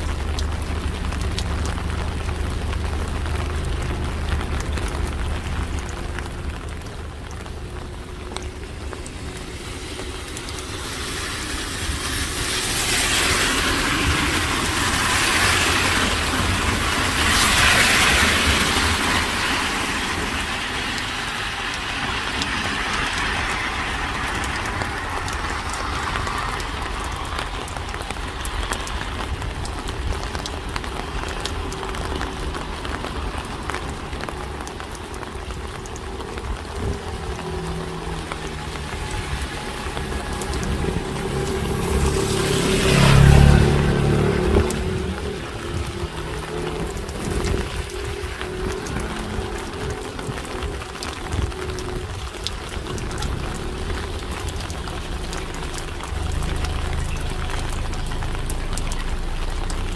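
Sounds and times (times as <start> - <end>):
low engine hum: 0.0 - 21.7, 22.5 - 59.9
rain falling on a street: 0.0 - 59.9
tyre hiss on wet road: 0.0 - 59.9.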